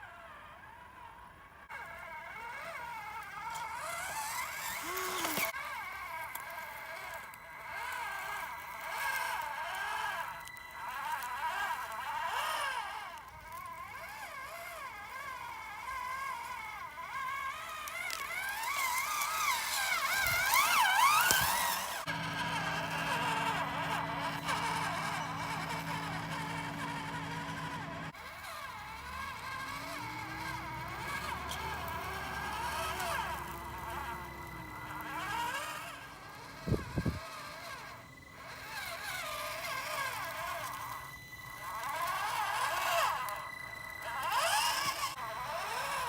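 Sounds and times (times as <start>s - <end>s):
electric motor and gears whining: 0.0s - 46.0s.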